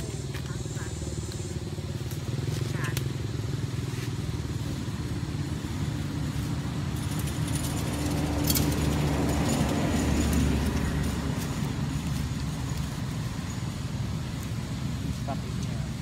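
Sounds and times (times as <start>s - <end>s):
motorcycle engines running: 0.0s - 16.0s
motorcycle passing: 0.0s - 16.0s.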